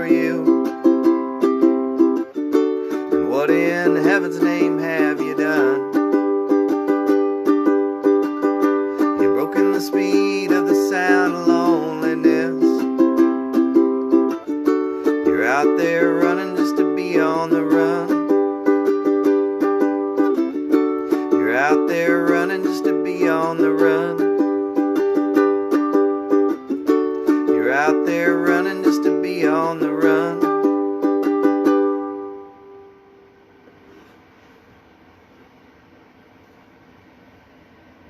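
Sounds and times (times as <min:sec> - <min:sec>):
ukulele strumming: 0:00.0 - 0:34.1.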